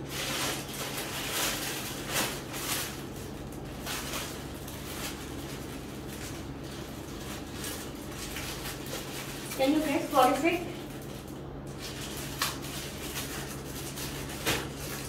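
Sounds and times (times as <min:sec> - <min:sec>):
plastic packaging crinkling: 0:00.0 - 0:15.0
steady low hum: 0:00.0 - 0:15.0.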